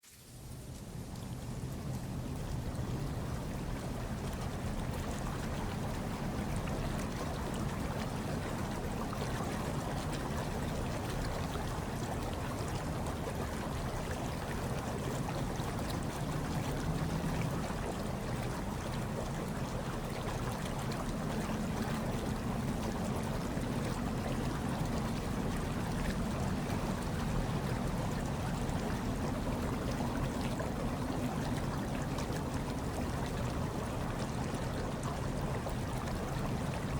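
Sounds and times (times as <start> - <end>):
faint water trickling: 0.0 - 36.9
hot tub water churning: 1.0 - 36.9.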